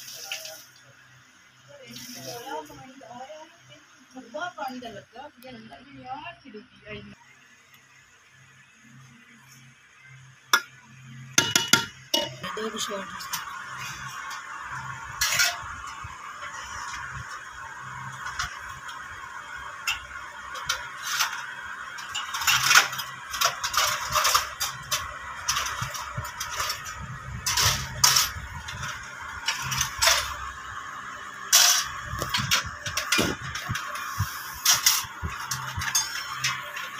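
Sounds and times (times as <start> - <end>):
steady background noise: 0.0 - 36.9.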